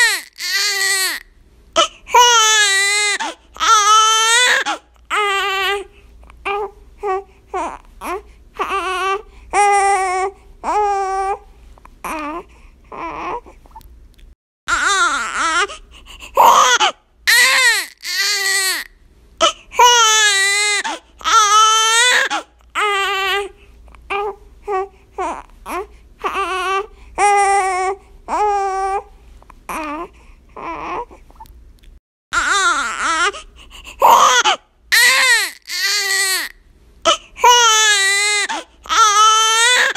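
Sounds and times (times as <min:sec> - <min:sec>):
baby crying: 0:00.0 - 0:05.9, 0:06.5 - 0:11.4, 0:14.7 - 0:15.8, 0:16.4 - 0:29.1, 0:29.7 - 0:31.2, 0:32.4 - 0:39.9.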